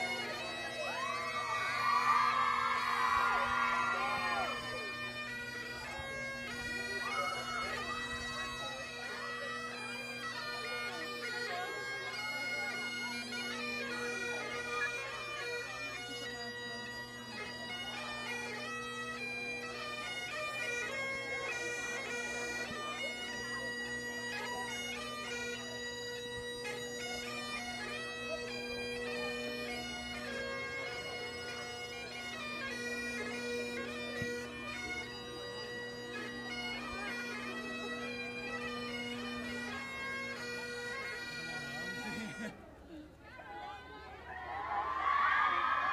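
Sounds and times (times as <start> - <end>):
bagpipe playing a tune: 0.0 - 42.6.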